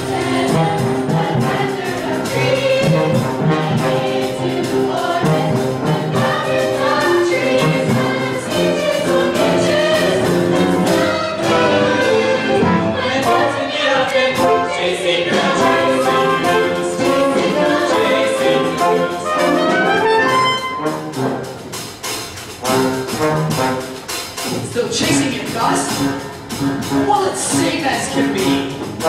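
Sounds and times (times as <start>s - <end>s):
orchestra playing with brass: 0.0s - 29.0s.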